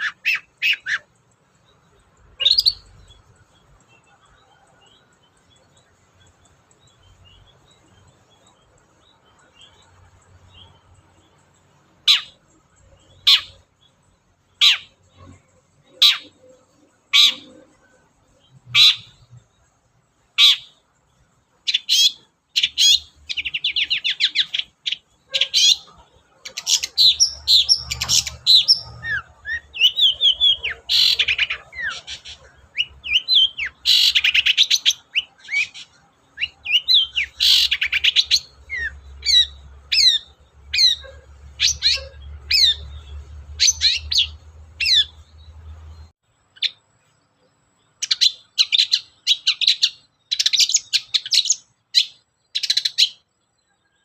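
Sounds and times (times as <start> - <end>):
bird sharp downward calls: 0.0 - 1.2, 1.8 - 5.8, 11.9 - 19.6, 20.3 - 20.9, 21.6 - 46.8, 48.0 - 53.3
bird chattering song with trills: 0.0 - 54.0.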